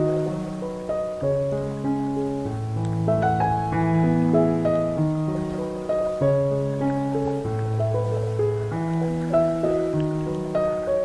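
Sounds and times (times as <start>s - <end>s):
soft slow piano chords: 0.0s - 11.0s.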